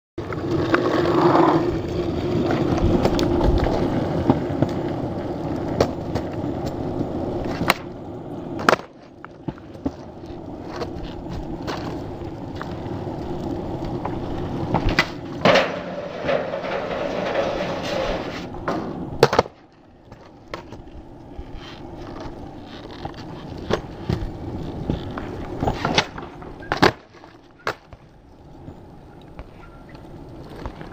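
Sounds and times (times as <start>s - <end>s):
skateboard grinding on metal: 0.2s - 27.8s
skateboard clacking: 0.2s - 30.9s
skateboard wheels rolling on concrete: 0.2s - 30.9s.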